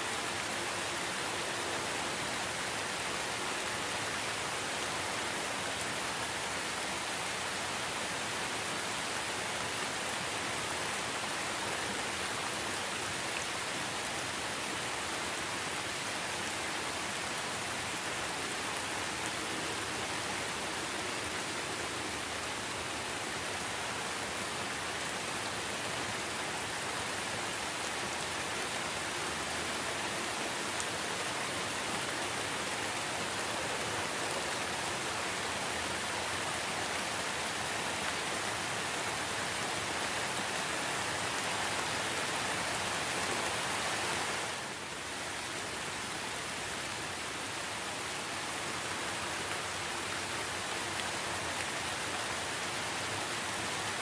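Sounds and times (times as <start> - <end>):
rain falling on puddle: 0.0 - 54.0.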